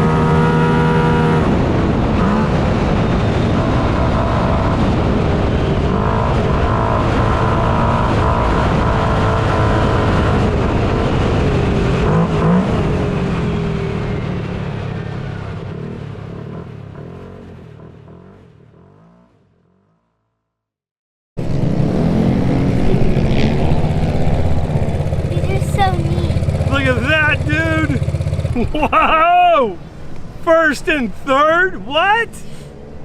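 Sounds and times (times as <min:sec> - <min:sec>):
race car engines revving: 0:00.0 - 0:19.3, 0:21.4 - 0:33.0.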